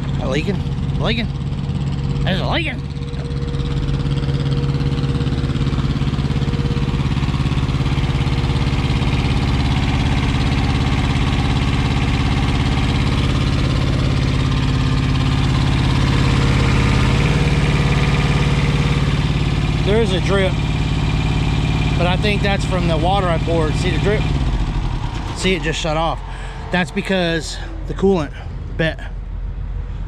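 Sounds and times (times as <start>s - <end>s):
diesel truck engine idling: 0.0s - 30.0s.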